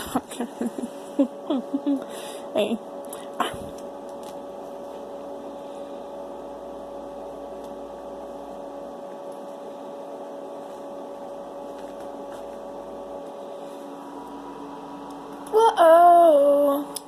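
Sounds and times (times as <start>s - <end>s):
machine-like hum: 0.0s - 17.0s.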